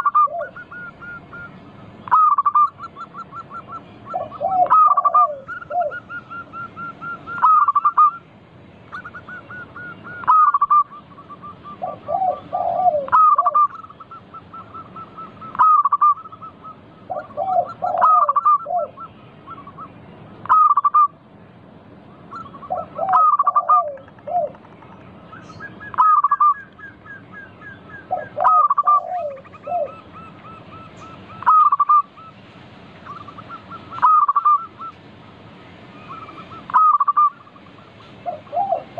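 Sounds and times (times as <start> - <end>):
doves cooing: 0.0 - 21.2, 22.0 - 38.9.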